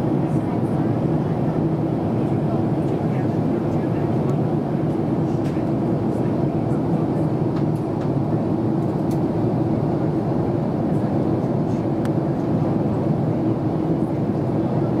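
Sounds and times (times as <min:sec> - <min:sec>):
jet engine drone: 0:00.0 - 0:15.0.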